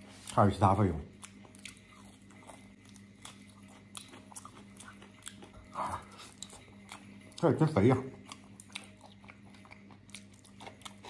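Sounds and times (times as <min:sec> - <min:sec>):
man chewing with lips smacking: 0:01.1 - 0:07.4, 0:08.1 - 0:11.0.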